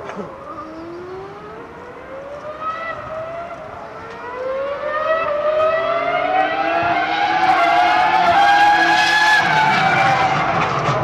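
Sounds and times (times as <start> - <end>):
racing car engine accelerating: 0.2 - 11.0.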